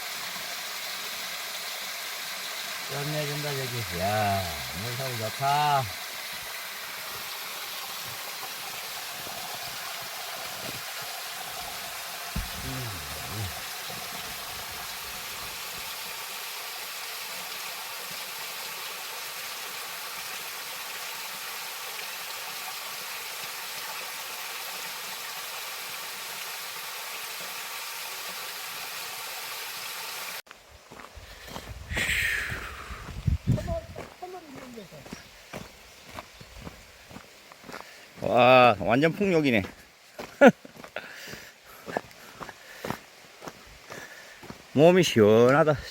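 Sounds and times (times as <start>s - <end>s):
waterfall and stream rushing: 0.0s - 45.9s.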